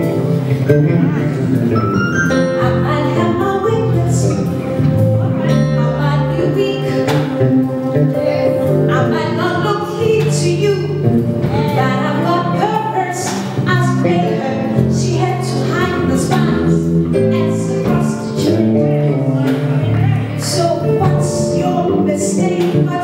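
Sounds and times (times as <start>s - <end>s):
sustained instrumental chords: 0.0s - 23.0s
woman singing into microphone: 2.6s - 23.0s.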